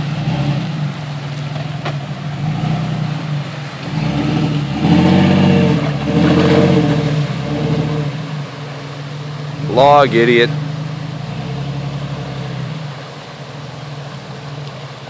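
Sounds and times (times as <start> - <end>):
car engine revving under load: 0.0 - 15.0
water splashing around tyres: 0.0 - 15.0.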